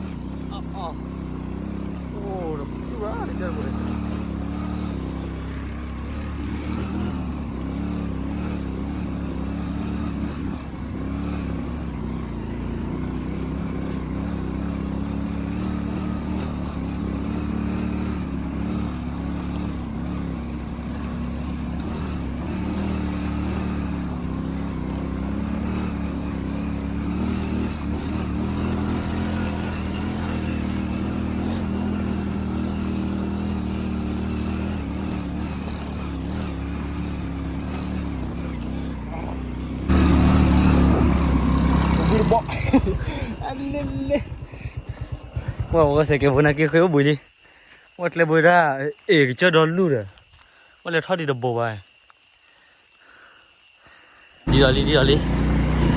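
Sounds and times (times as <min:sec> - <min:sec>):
motorcycle engine running: 0:00.0 - 0:47.2, 0:54.4 - 0:55.9.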